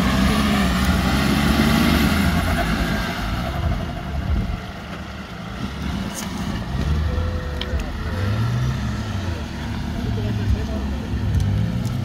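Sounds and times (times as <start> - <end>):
engine revving under load: 0.0 - 4.6, 5.5 - 12.0.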